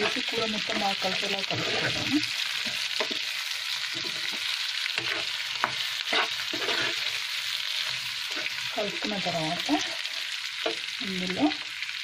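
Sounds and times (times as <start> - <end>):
spatula scraping pan: 0.0 - 10.9
food sizzling in oil: 0.0 - 12.0.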